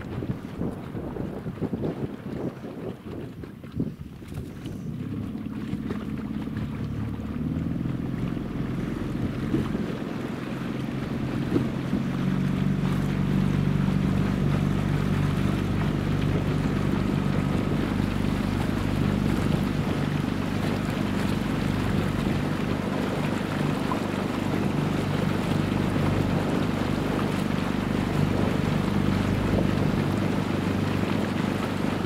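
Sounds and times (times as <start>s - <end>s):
wind noise: 0.0s - 5.9s, 8.8s - 32.0s
motorboat engine humming: 0.0s - 32.0s
rushing water: 0.0s - 32.0s.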